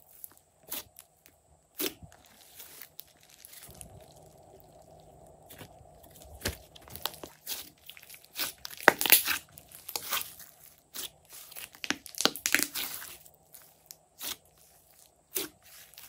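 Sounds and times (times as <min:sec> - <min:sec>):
slime squelching and popping: 0:01.8 - 0:16.0.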